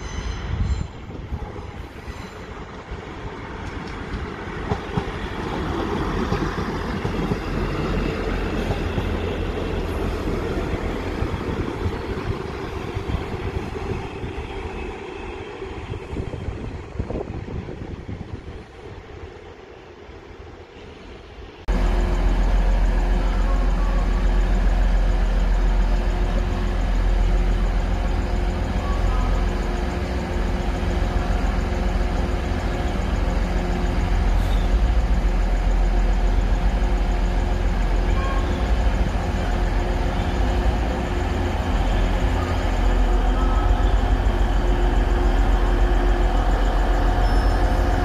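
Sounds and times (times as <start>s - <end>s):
diesel train engine rumbling: 0.0s - 48.0s.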